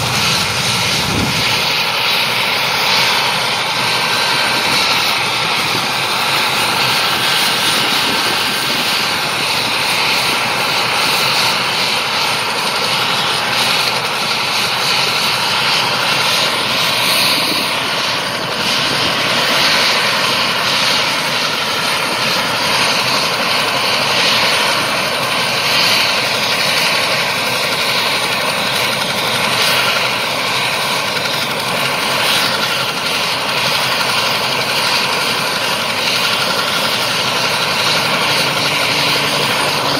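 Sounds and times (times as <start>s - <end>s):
helicopter turbine whine: 0.0s - 39.9s.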